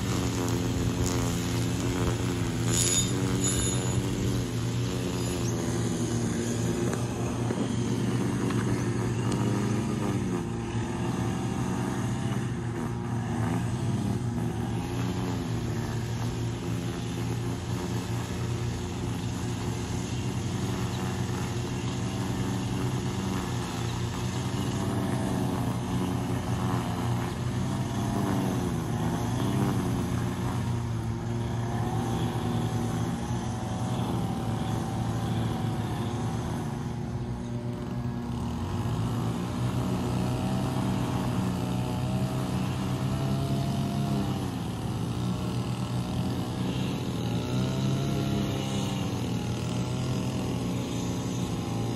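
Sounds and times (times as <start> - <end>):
low engine drone: 0.0 - 51.9.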